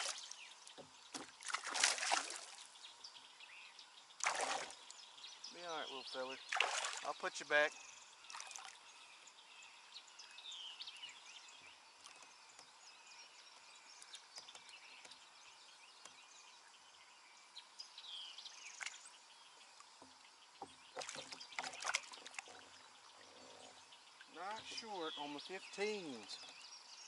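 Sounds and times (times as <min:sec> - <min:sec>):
soft steady hiss: 0:00.0 - 0:27.0
birds chirping and whistling: 0:02.3 - 0:27.0.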